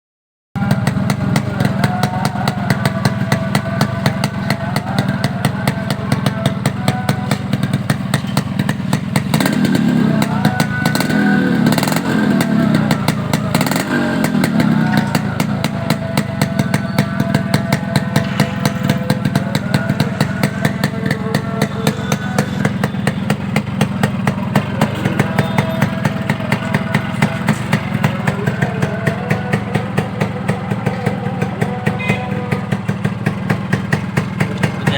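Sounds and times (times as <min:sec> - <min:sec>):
motorcycle engine idling and revving: 0:00.6 - 0:34.9.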